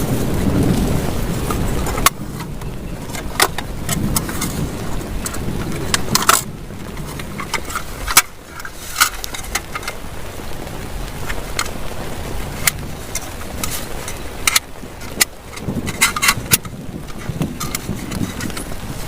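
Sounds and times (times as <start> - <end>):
heavy rain: 0.0 - 19.0
sharp taps of large raindrops: 0.0 - 19.0.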